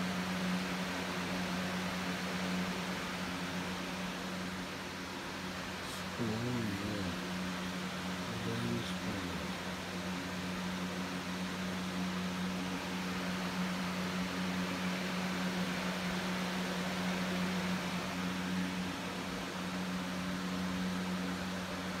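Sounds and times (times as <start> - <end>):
air conditioner blowing hiss: 0.0 - 22.0
air conditioner low hum: 0.0 - 22.0.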